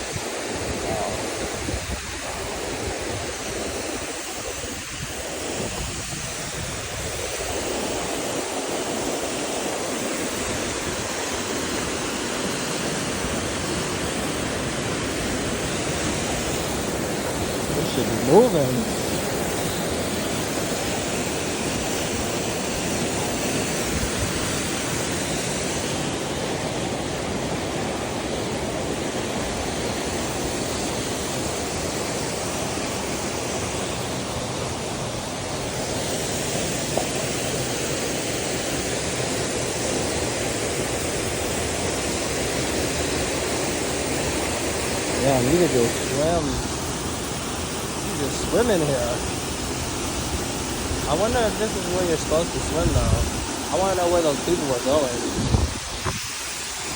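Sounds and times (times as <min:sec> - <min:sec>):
waterfall roaring: 0:00.0 - 0:56.9.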